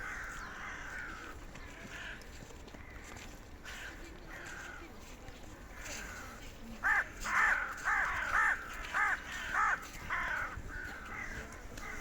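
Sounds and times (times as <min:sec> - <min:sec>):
crows cawing: 0:00.0 - 0:04.8, 0:05.8 - 0:12.0.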